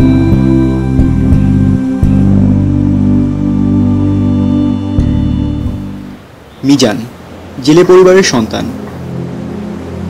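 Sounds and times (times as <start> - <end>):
slow ambient music: 0.0 - 6.5, 8.2 - 10.0.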